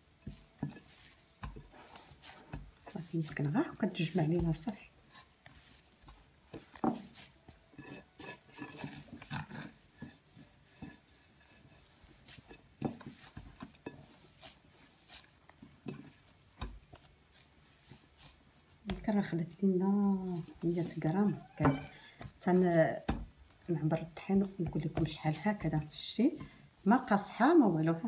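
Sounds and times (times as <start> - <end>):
hands rubbing crumbly dough: 0.0 - 28.0.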